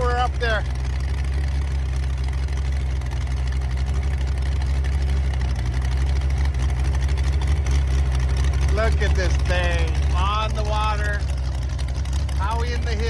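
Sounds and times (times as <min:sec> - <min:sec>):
hot rod engine running: 0:00.0 - 0:13.0.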